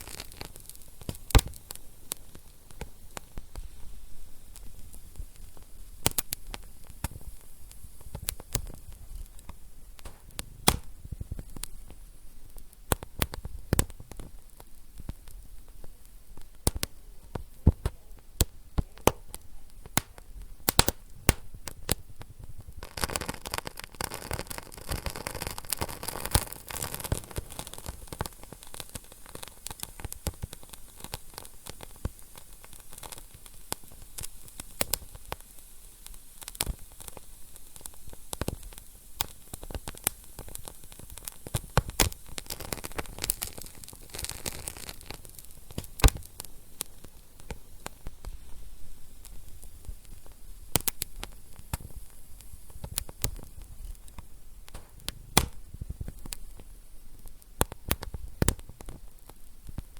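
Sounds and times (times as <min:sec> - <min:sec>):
steady hiss: 0:00.0 - 0:59.9
wood fire crackling and popping: 0:00.0 - 0:59.9.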